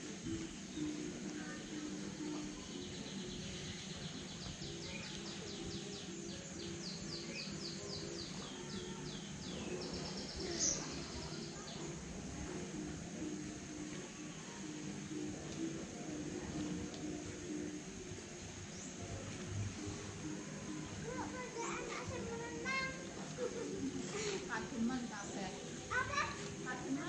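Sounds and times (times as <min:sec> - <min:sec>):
outdoor background hiss: 0:00.0 - 0:27.0
songbird singing: 0:00.0 - 0:27.0.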